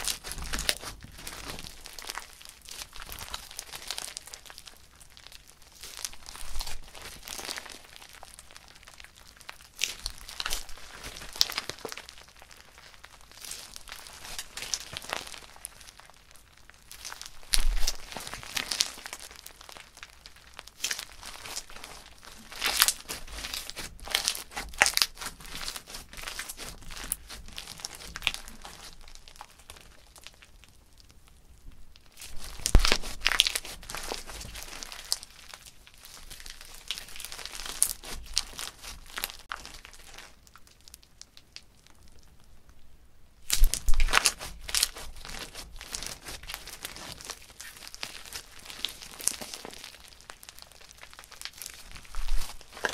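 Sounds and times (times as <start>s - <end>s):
crunchy slime crackling: 0.0s - 42.8s, 43.4s - 52.9s.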